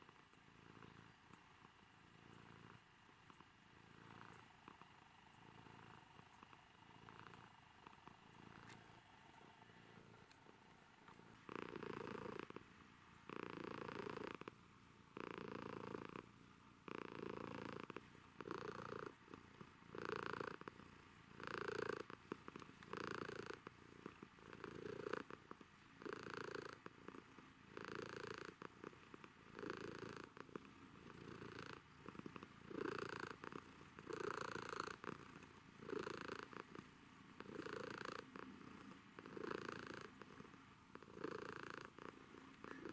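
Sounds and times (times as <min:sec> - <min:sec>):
cat purring: 0:00.0 - 0:42.9.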